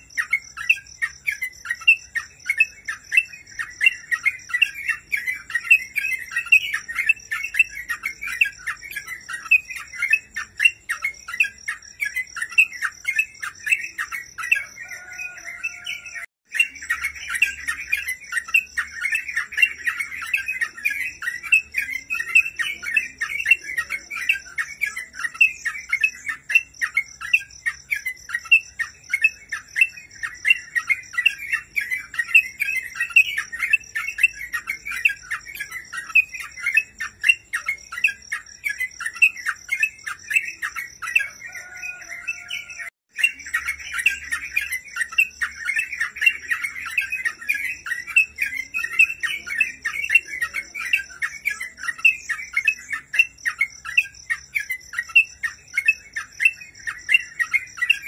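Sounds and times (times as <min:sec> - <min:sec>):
bird singing bubbly chattering: 0:00.0 - 0:58.0
faint steady high tone: 0:00.0 - 0:58.0.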